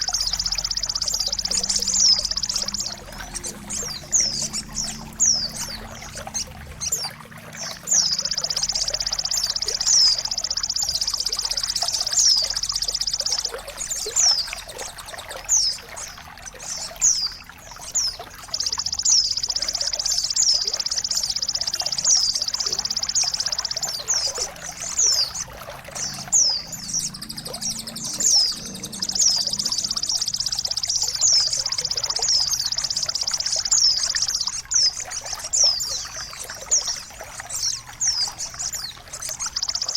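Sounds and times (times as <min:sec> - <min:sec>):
long high bird trills: 0:00.0 - 0:16.2, 0:17.3 - 0:39.9
rapid high bird chirps: 0:00.0 - 0:39.9
trickling water: 0:00.0 - 0:39.9.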